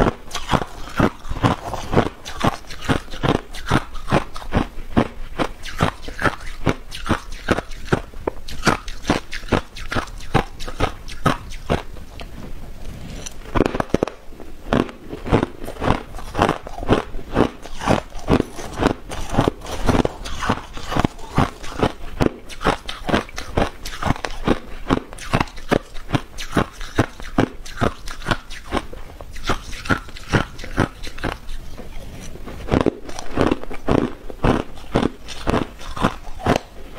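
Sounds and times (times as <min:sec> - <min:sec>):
chewing crushed ice: 0:00.0 - 0:12.3, 0:13.1 - 0:36.9.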